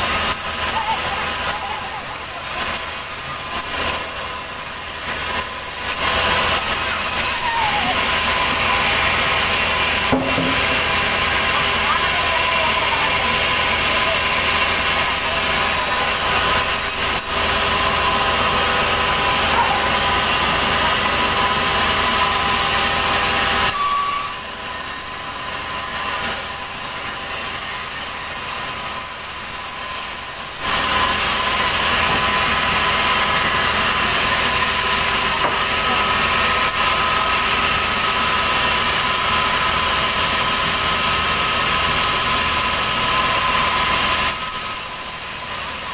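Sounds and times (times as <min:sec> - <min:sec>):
band saw machinery running: 0:00.0 - 0:45.9.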